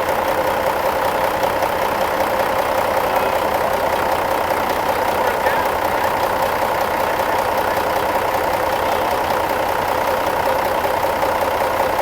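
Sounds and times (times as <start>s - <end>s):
large vehicle engine running: 0.0s - 12.0s.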